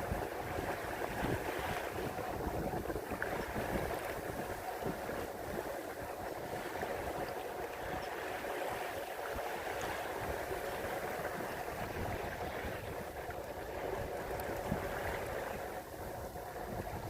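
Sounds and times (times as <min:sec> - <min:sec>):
water rushing along a hull: 0:00.0 - 0:17.0.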